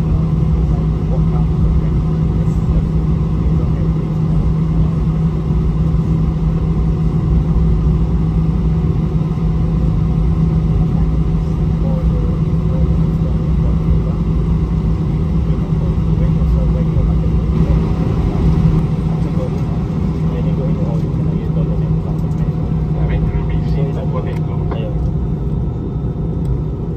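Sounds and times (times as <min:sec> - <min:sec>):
jet engines humming: 0:00.0 - 0:26.9
wheels rumbling on taxiway: 0:00.0 - 0:26.9.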